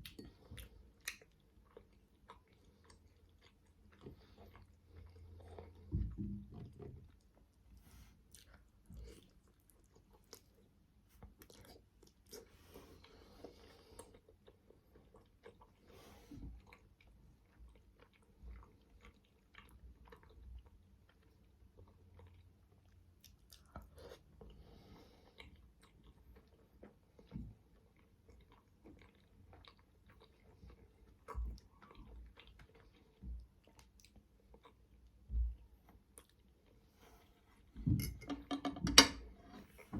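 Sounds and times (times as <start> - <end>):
close-up chewing: 0.0 - 37.8.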